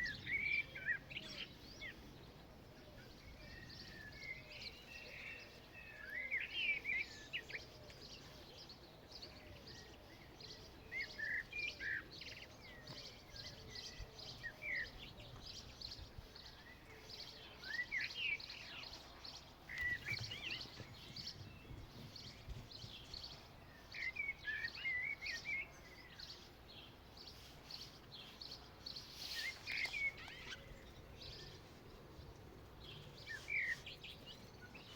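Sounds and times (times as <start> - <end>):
birds singing: 0.0 - 34.9.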